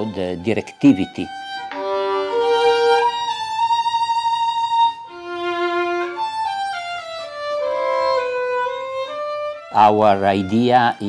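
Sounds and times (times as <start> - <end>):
solo violin melody: 0.0 - 11.0.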